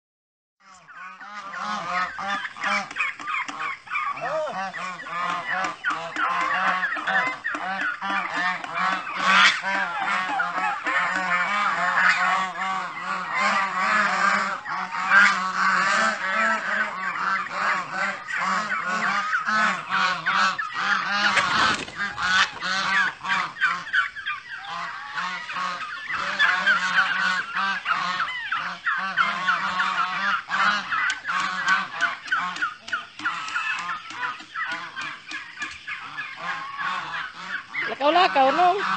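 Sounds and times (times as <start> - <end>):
flock of geese honking: 0.6 - 38.9.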